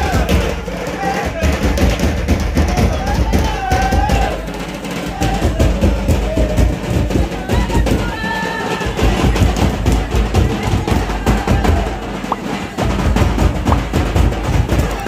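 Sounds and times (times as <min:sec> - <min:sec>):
rapid folk drumming: 0:00.0 - 0:15.0
voices: 0:00.0 - 0:15.0.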